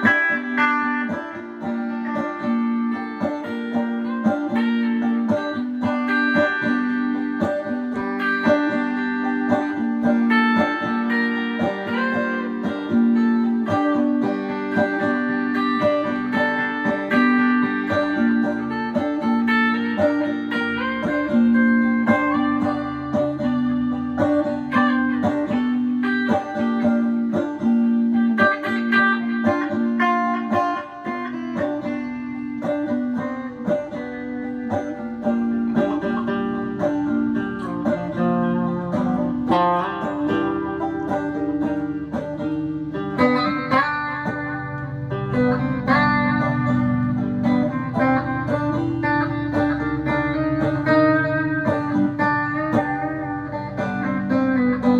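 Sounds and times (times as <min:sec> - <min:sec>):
electric banjo: 0:00.0 - 0:54.9
electric guitar: 0:00.0 - 0:54.9.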